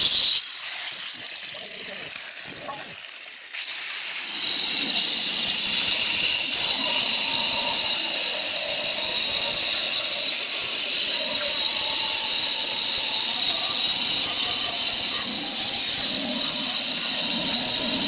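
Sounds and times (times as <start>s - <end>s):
blade grinding in stone: 0.0s - 18.0s
stone cutter whining: 0.0s - 18.0s.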